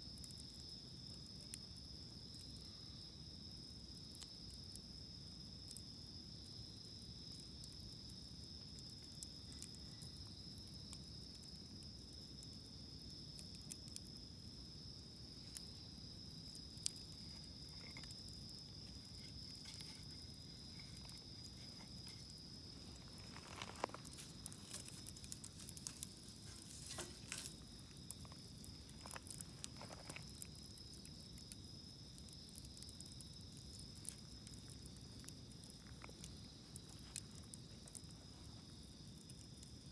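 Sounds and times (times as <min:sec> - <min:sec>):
campfire crackling and popping: 0:00.0 - 0:39.9
insects chirring: 0:00.0 - 0:39.9.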